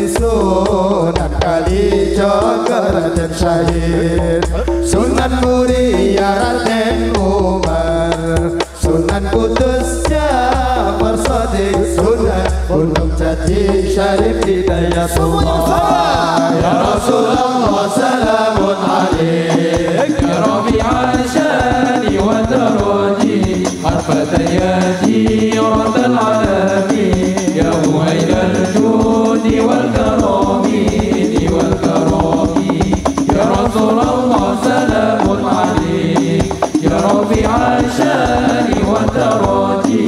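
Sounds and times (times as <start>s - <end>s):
devotional singing: 0.0s - 40.0s
percussion beat: 0.0s - 40.0s.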